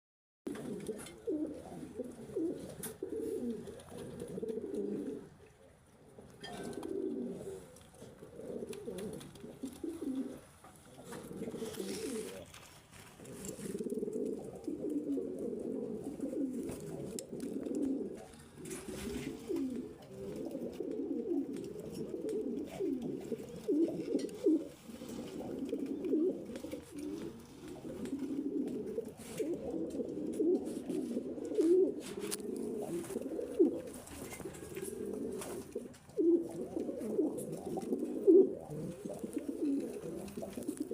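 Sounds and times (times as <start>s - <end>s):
pigeons cooing: 0.5s - 40.9s.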